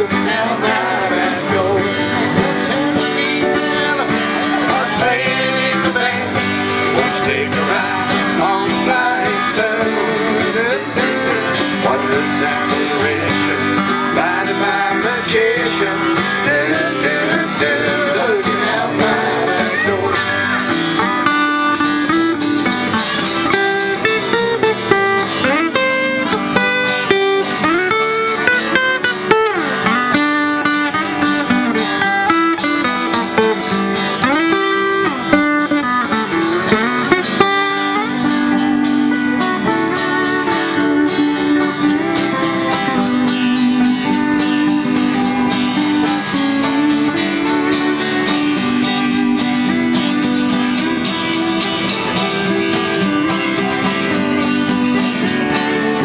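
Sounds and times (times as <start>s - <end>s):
banjo: 0.0s - 56.0s
country band playing: 0.0s - 56.0s
sliding lead guitar line: 0.0s - 56.0s
strummed acoustic guitars: 0.0s - 56.0s.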